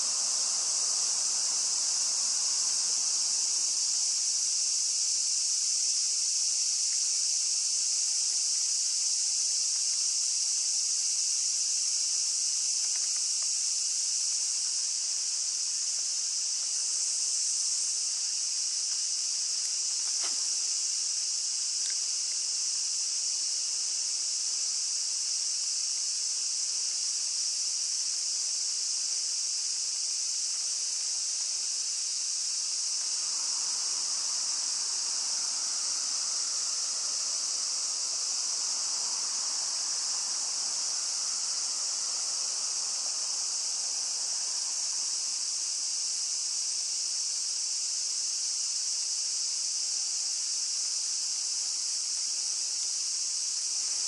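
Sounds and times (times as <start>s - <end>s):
cicada chorus shrilling: 0.0s - 54.0s
soft low hiss: 0.0s - 54.0s.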